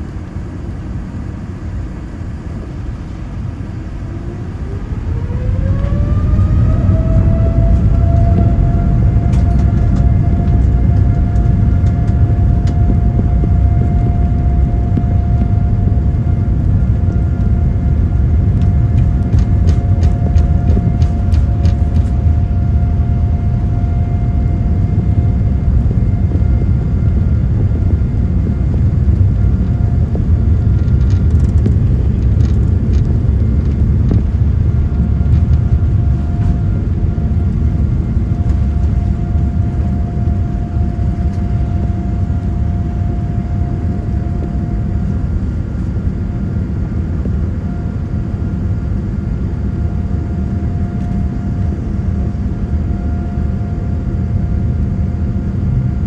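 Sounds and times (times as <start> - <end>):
airliner engine rumble in cabin: 0.0 - 56.0.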